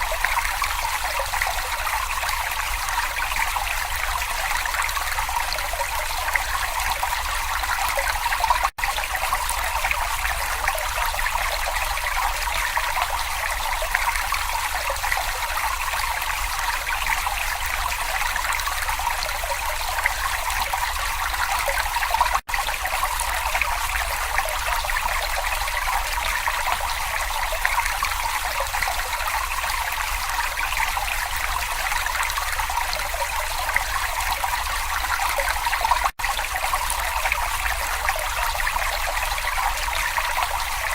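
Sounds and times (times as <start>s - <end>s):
brook water flowing: 0.0s - 40.9s.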